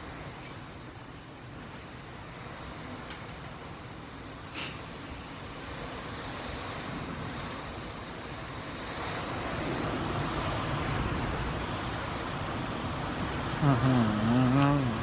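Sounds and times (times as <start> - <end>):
strong wind rushing past building: 2.0 - 15.0.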